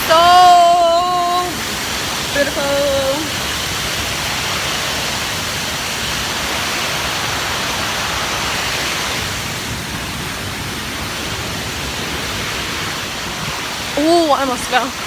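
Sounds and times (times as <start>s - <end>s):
falling water rushing: 0.0s - 15.0s.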